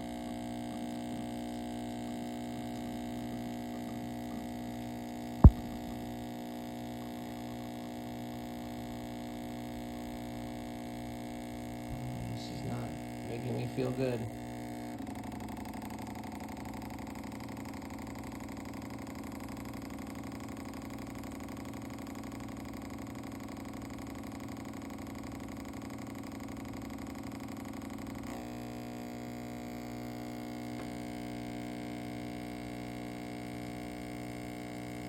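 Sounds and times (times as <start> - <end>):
espresso machine pump humming: 0.0 - 35.0.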